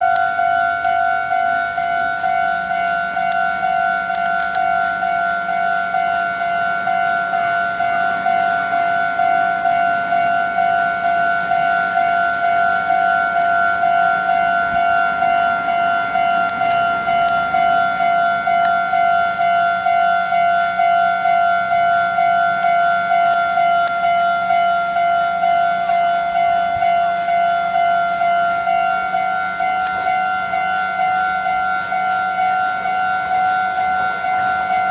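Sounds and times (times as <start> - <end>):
level crossing bell ringing: 0.0 - 34.9.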